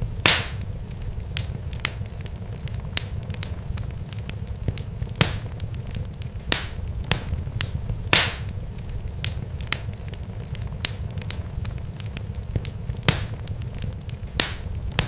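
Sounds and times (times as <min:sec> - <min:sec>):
crackles and pops: 0:00.0 - 0:15.0
loud snaps with hiss: 0:00.2 - 0:15.0.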